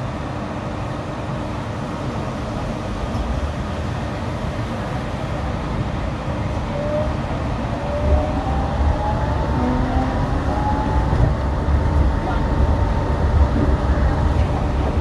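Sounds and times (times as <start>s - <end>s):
train running with low rumble: 0.0s - 15.0s.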